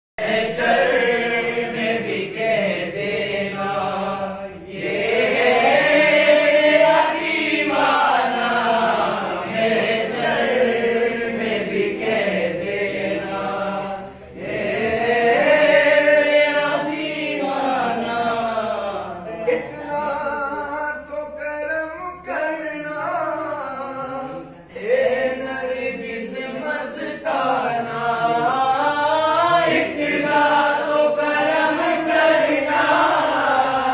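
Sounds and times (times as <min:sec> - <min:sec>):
men chanting together: 0:00.2 - 0:21.1, 0:22.2 - 0:33.9.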